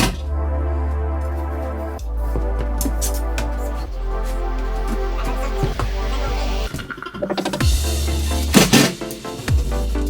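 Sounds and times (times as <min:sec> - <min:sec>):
synth music with bass line: 0:00.0 - 0:06.8, 0:07.5 - 0:10.0.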